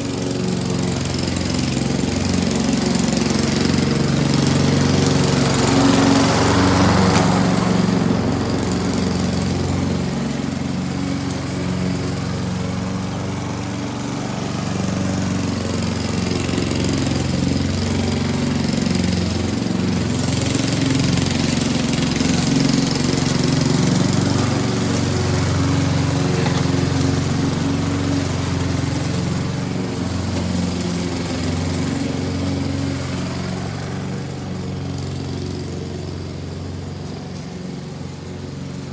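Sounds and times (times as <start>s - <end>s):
lawn mower cutting grass: 0.0s - 38.9s.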